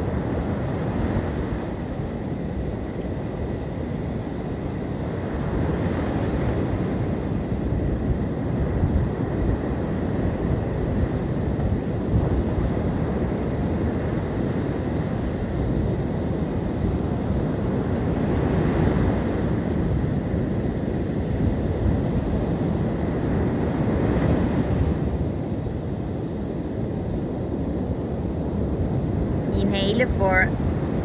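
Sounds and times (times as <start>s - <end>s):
sea surf washing on beach: 0.0s - 31.0s
wind buffeting microphone: 0.0s - 31.0s.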